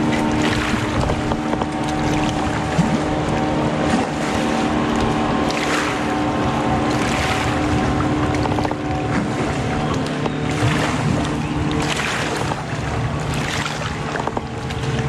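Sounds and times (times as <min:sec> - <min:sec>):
kayak drive humming: 0:00.0 - 0:15.0
water: 0:00.0 - 0:15.0
wind on microphone: 0:00.0 - 0:15.0.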